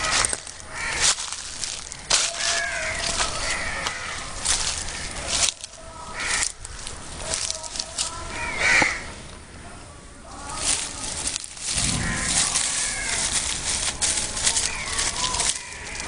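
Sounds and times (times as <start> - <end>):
leaves and twigs rustling: 0.0 - 16.0.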